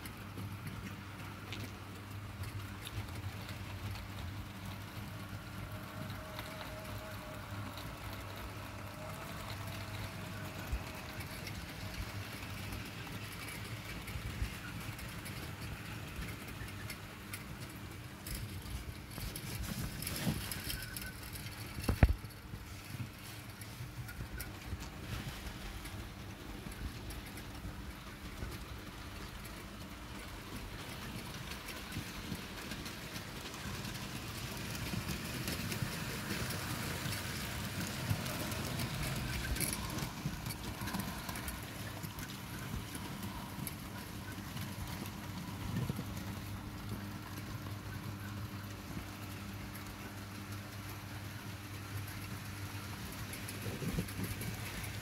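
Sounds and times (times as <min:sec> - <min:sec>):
model train motor hum: 0:00.0 - 0:55.0
wheels clicking on track: 0:00.0 - 0:55.0.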